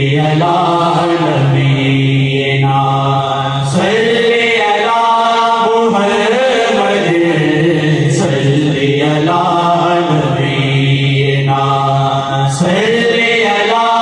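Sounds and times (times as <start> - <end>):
voices singing devotional song: 0.0 - 14.0.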